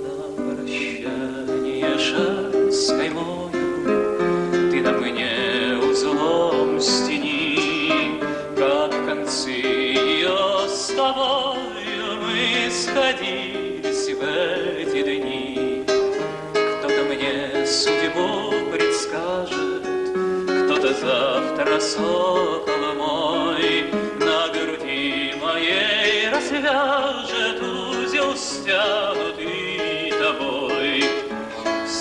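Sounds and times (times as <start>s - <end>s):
acoustic guitar: 0.0s - 32.0s
man singing with vibrato: 0.0s - 32.0s.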